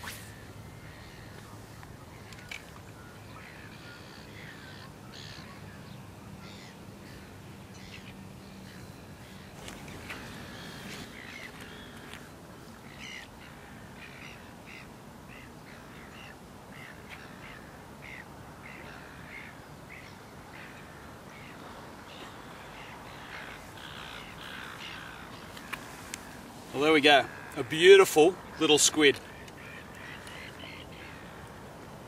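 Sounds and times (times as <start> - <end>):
steady background hiss: 0.0 - 32.0
harsh caw-like bird calls: 0.7 - 1.4, 3.3 - 5.7, 6.4 - 31.7.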